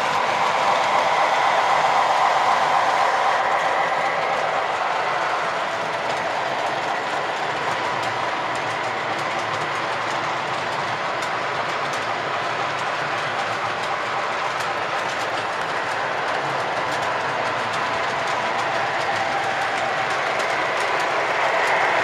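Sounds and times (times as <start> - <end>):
model train whirring: 0.0 - 22.0.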